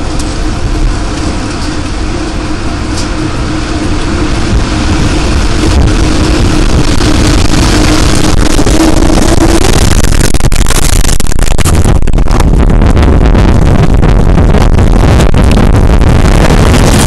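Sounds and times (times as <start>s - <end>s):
steady hum-like tone: 0.0s - 17.0s
tornado wind blowing: 0.0s - 17.0s.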